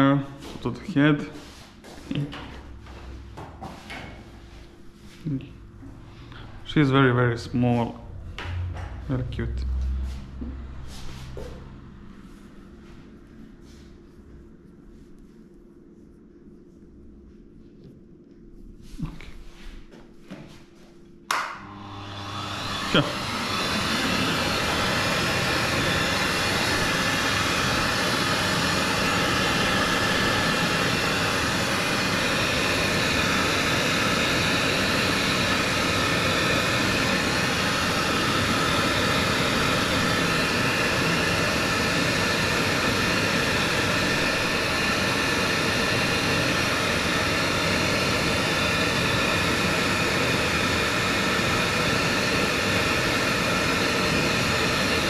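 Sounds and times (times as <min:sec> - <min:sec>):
dog dryer blowing air: 0:00.0 - 0:12.6, 0:21.3 - 0:55.0.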